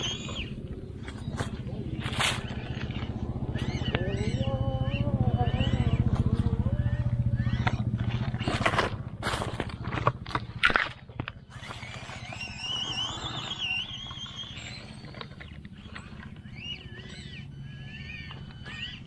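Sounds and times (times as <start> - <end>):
rc truck motor humming: 0.0 - 19.0.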